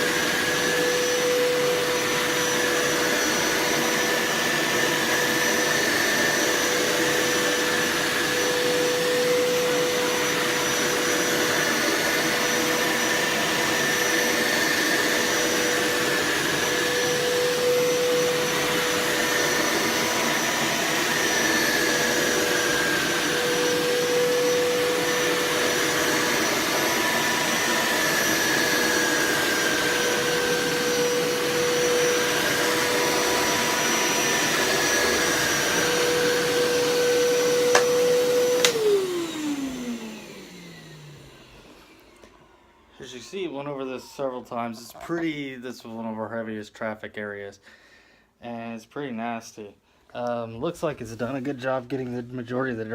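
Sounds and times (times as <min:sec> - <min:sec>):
carpet cleaner motor whining: 0:00.0 - 0:44.4.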